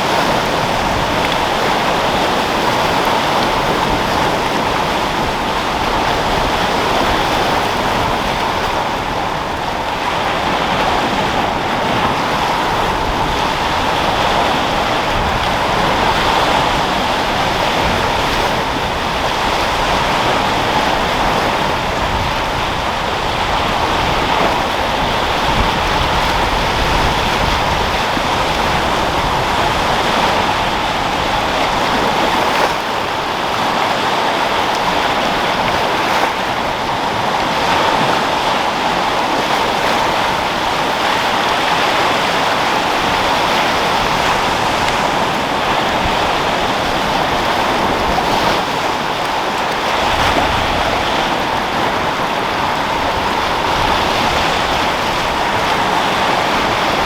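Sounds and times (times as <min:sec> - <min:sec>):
waves breaking: 0:00.0 - 0:57.0
wind: 0:00.0 - 0:57.0.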